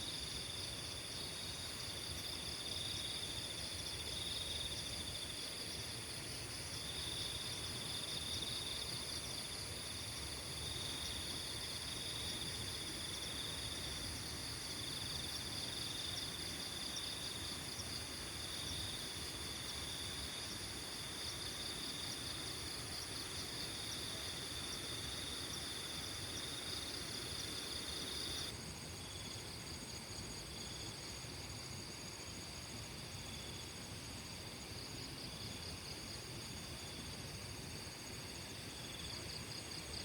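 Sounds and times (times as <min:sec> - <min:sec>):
crickets and insects chirring: 0:00.0 - 0:40.0.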